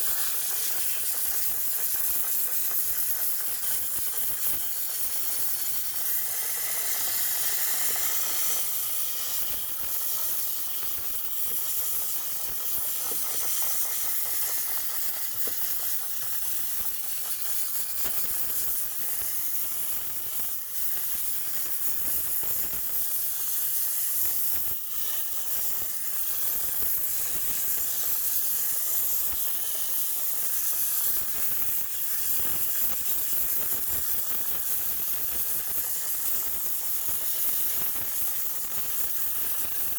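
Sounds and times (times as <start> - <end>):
steam cleaner hissing: 0.0 - 39.9.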